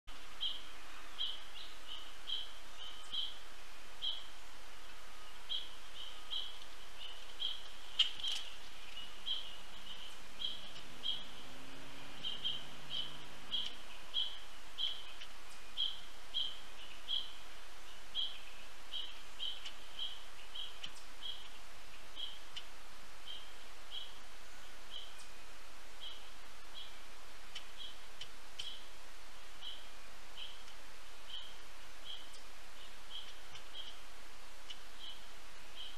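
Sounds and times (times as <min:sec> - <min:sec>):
outdoor background: 0:00.0 - 0:35.9
bird chirping: 0:00.1 - 0:35.9.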